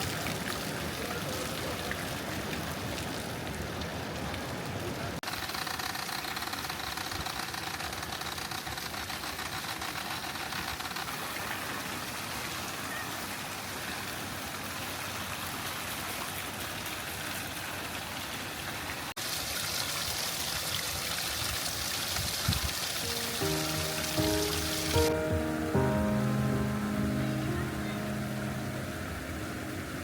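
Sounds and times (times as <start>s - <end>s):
running water rushing: 0.0s - 5.2s, 11.1s - 30.0s.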